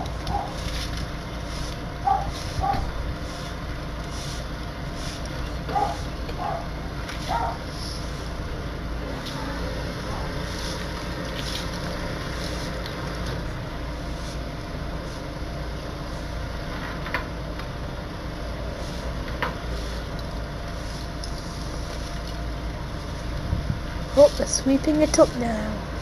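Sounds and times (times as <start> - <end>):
broom scraping: 0.0 - 17.0, 18.6 - 23.4, 24.1 - 25.6
vehicle engine idling: 0.0 - 26.0.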